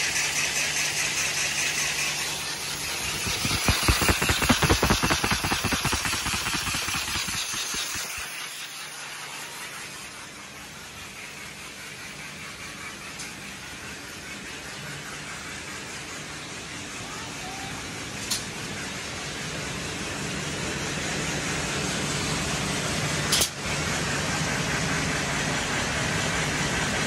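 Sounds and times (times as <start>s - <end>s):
machine whirring with low hum: 0.0s - 27.0s.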